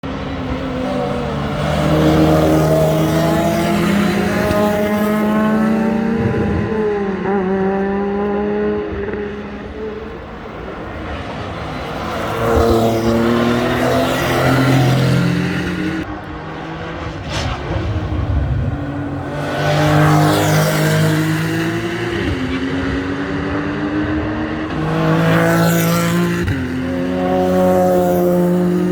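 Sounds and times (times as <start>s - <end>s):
race cars passing at high revs: 0.0s - 28.9s.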